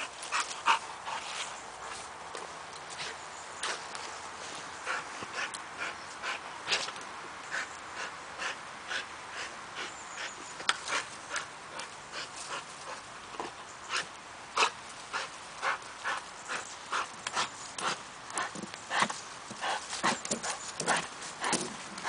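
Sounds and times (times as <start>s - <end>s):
dog panting: 0.0s - 2.1s, 4.6s - 22.0s.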